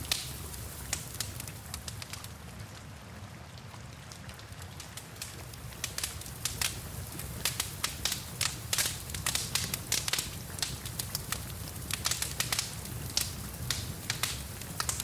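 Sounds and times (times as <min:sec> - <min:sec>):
rain hiss: 0:00.0 - 0:15.0
wood fire crackling and popping: 0:00.0 - 0:15.0.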